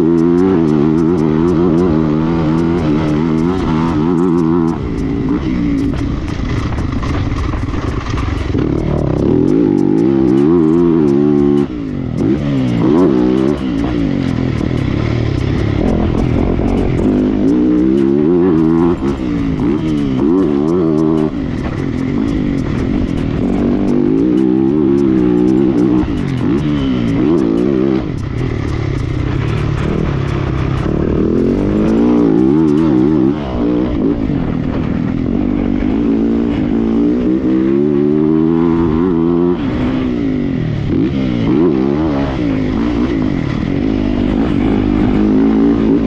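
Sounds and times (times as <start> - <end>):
motocross bike engine revving: 0.0 - 46.0.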